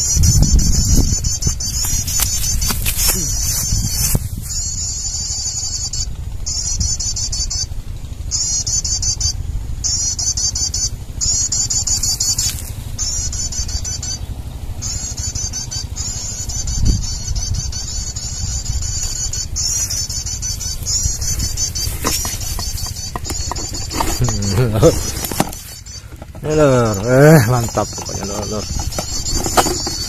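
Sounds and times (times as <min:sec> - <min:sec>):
high-pitched bird chirping: 0:00.0 - 0:30.0.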